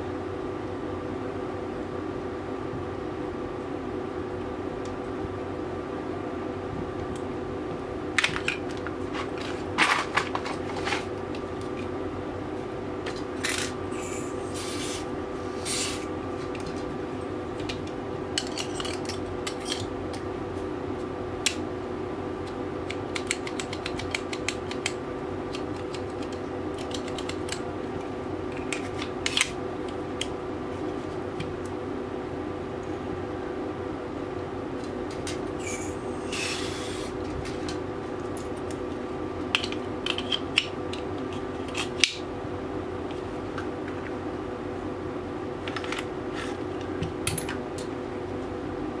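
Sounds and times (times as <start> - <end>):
steady background hum: 0.0 - 49.0.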